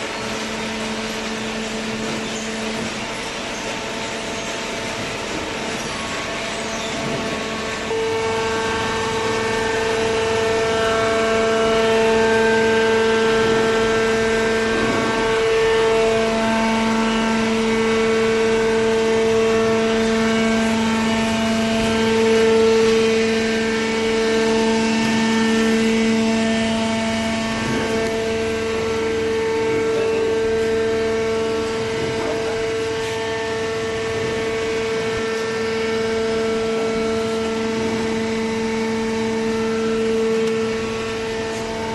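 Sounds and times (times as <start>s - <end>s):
hydraulic motor and pump whine: 0.0s - 41.9s.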